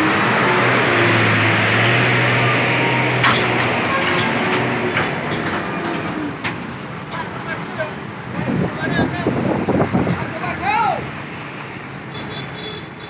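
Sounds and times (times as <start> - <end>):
vehicle engine drone: 0.0 - 11.3
road rush: 0.0 - 13.0.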